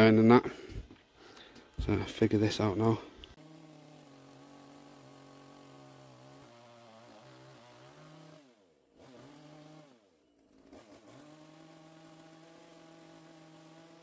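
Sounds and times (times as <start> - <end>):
chainsaw cutting log: 2.6 - 14.0.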